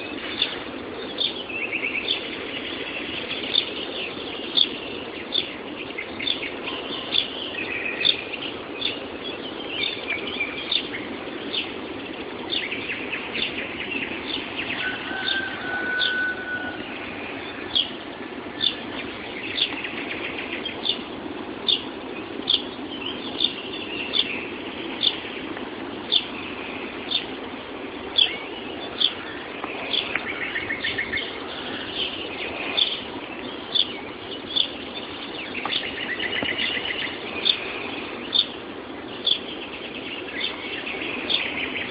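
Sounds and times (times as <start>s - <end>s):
low background noise: 0.0s - 41.9s
songbirds twittering: 0.0s - 41.9s.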